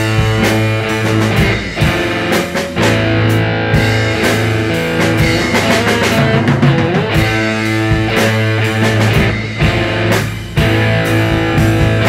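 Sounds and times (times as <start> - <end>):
drum hits: 0.0 - 12.0
electric guitar chords: 0.0 - 12.0.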